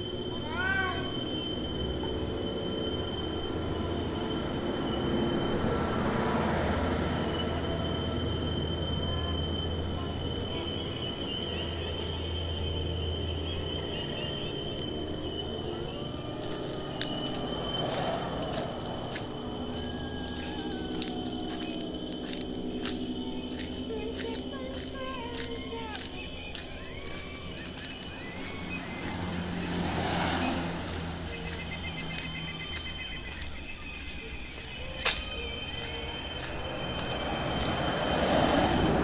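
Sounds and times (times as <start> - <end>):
crickets trilling: 0.0 - 39.0
quick insect chirps: 0.0 - 39.0.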